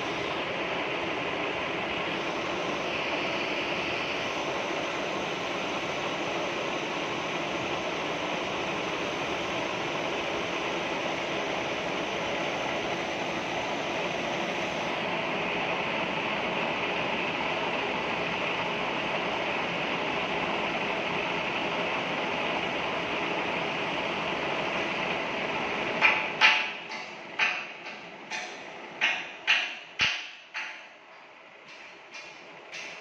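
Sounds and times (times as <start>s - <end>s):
metal lathe running: 0.0s - 29.6s.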